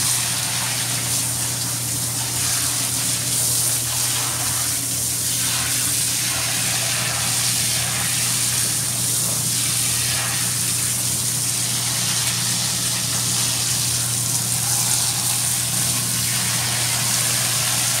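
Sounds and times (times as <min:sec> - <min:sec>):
hose nozzle spraying water: 0:00.0 - 0:18.0
utility pump humming: 0:00.0 - 0:18.0.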